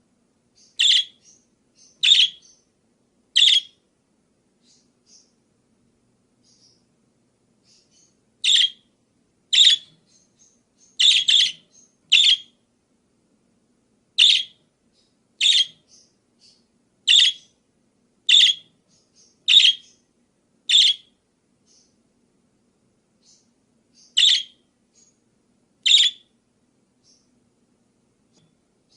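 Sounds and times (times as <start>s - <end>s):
faint steady low hum: 0.0s - 28.9s.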